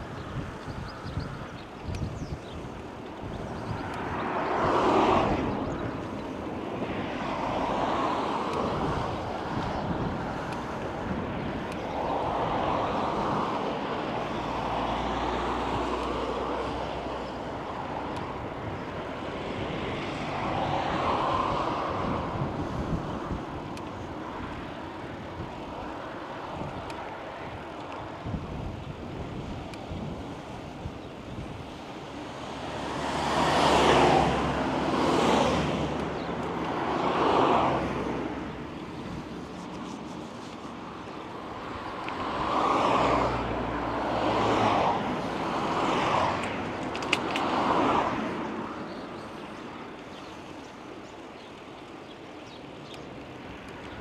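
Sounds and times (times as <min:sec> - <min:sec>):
road noise: 0:00.0 - 0:54.0
vehicles passing: 0:00.0 - 0:54.0
wind: 0:00.0 - 0:54.0.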